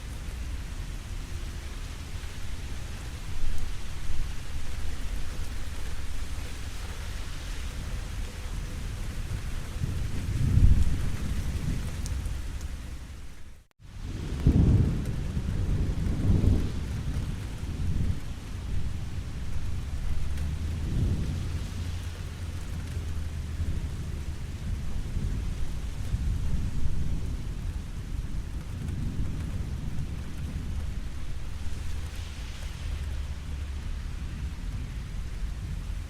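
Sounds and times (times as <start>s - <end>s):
steady rain: 0.0s - 36.0s
thunder rumbling: 0.0s - 36.0s.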